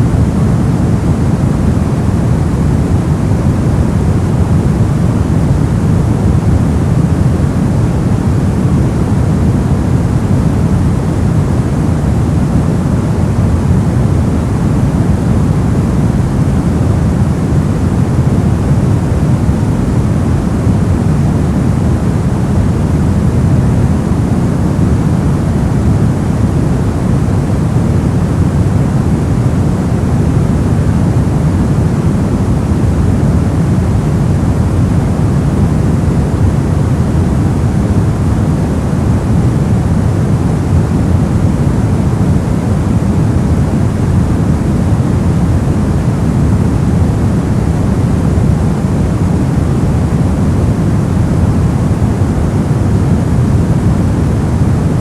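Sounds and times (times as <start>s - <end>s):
white noise low rumble: 0.0s - 55.0s.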